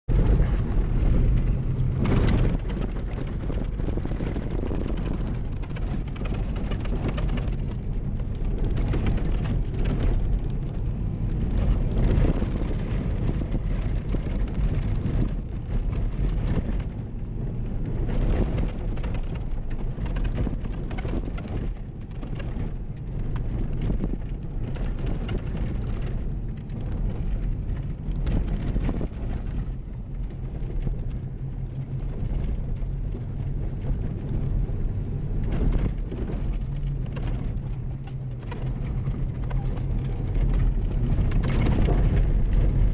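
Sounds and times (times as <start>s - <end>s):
knocks and rattles from bumps: 0.1s - 42.9s
vehicle rumbling on gravel: 0.1s - 42.9s.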